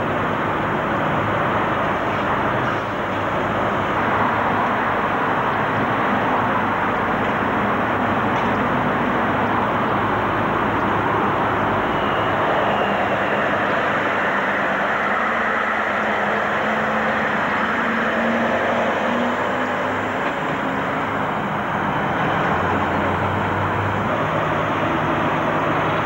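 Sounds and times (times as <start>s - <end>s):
diesel lorry engines running: 0.0s - 26.0s.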